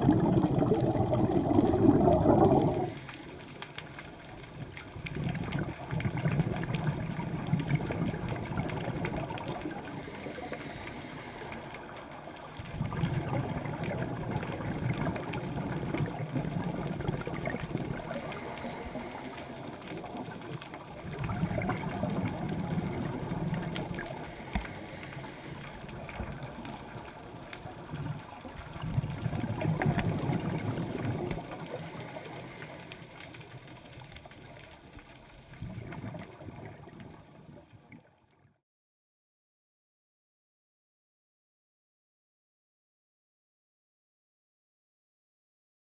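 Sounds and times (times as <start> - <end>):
underwater bubbles gurgling: 0.0 - 38.3.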